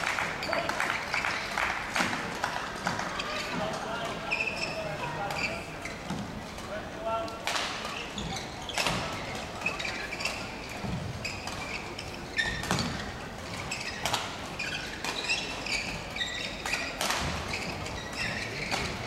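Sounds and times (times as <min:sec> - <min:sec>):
court shoes squeaking: 0:00.0 - 0:19.0.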